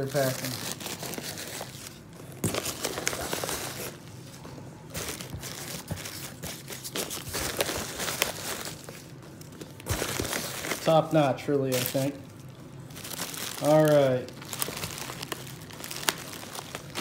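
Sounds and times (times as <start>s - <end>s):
packing material rustling and crinkling: 0.0s - 17.0s.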